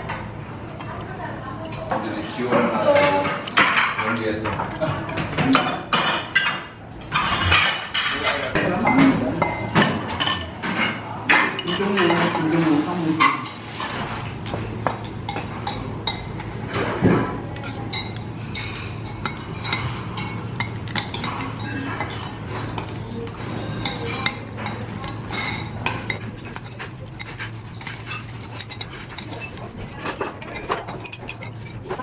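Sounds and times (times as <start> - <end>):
utensils clinking on dishes: 0.0 - 32.0.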